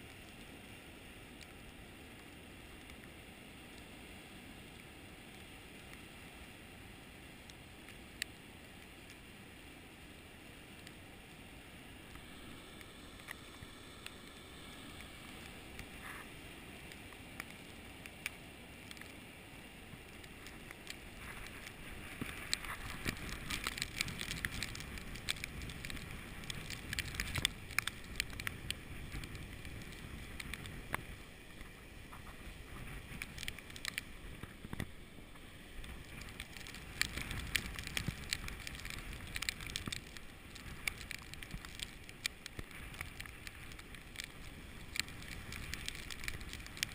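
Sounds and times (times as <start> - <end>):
crackling ticks: 0.0 - 0.5, 1.3 - 3.9, 7.3 - 9.3, 10.7 - 11.4, 12.0 - 46.9.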